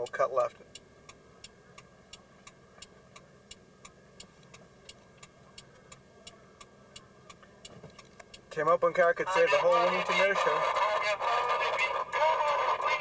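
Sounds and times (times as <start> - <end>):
faint low engine hum: 0.0 - 13.0
turn signal ticking: 0.0 - 13.0.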